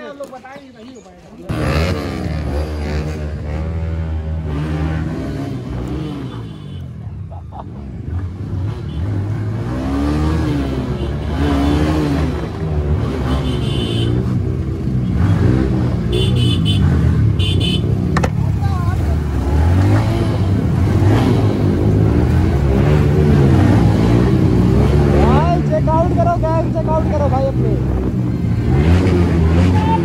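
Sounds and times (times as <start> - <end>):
motorcycle engine revving: 1.5 - 6.9, 7.5 - 30.0.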